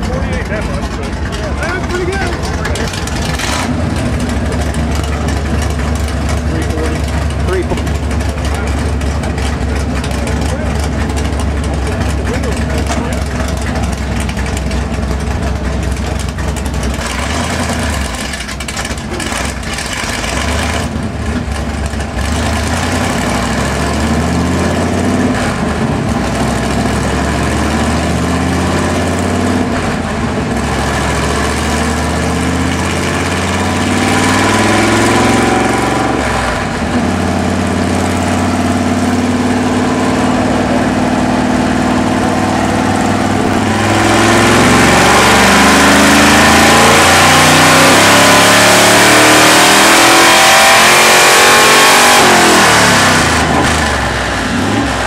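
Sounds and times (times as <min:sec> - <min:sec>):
pickup engine running under load: 0:00.0 - 0:55.0.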